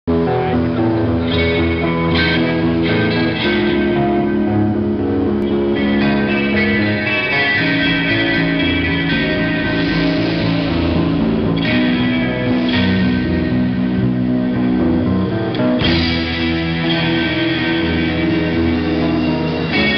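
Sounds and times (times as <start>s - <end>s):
bass guitar: 0.0s - 19.9s
distorted electric guitars: 0.0s - 19.9s
drum kit: 0.1s - 19.9s.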